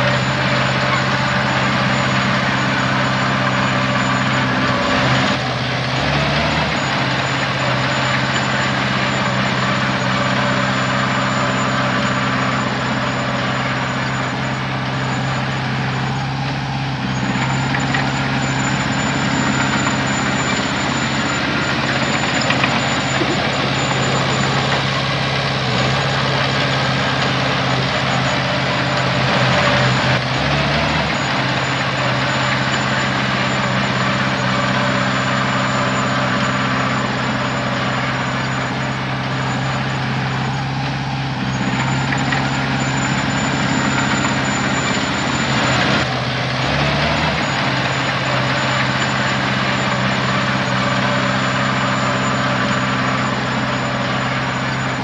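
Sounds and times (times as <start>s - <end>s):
heavy diesel engine running: 0.0s - 55.0s
high whine: 0.0s - 55.0s.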